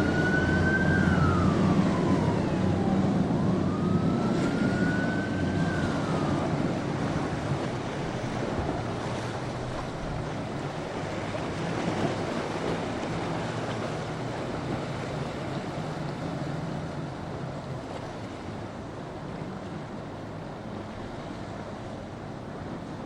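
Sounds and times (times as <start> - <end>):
boat engines humming: 0.0 - 23.0
waves and surf: 0.0 - 23.0
wind buffeting microphone: 0.0 - 23.0.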